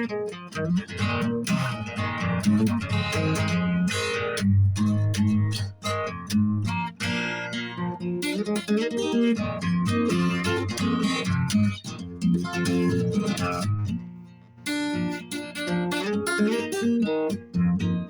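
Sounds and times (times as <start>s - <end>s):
guitar fingerpicking: 0.0s - 18.0s.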